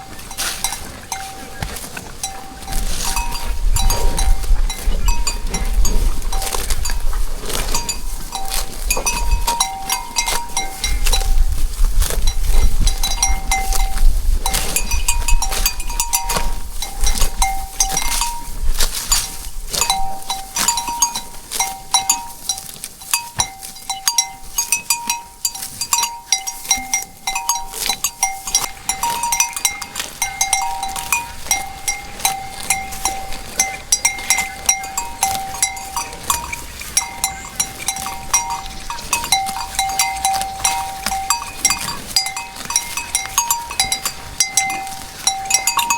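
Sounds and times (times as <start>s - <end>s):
cowbells clanking: 0.0s - 45.9s.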